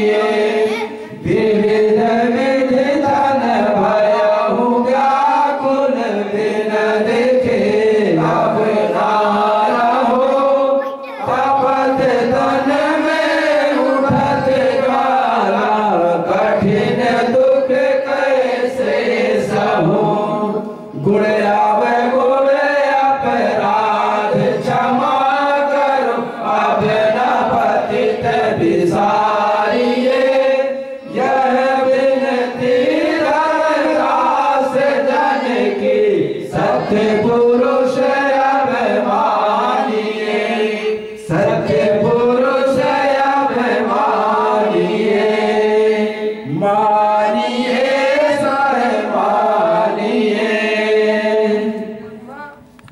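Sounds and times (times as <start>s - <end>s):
men chanting in unison: 0.0s - 52.6s.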